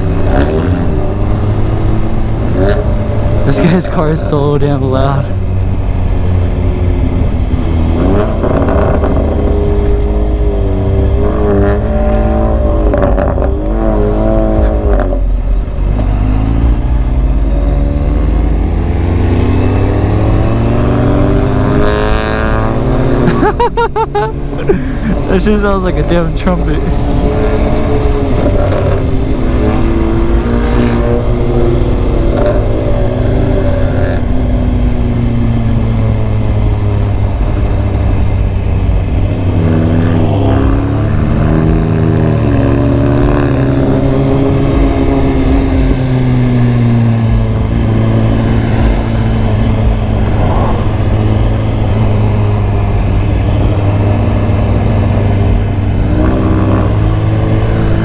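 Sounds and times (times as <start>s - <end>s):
loud car exhaust: 0.0s - 58.0s
low traffic rumble: 0.0s - 58.0s.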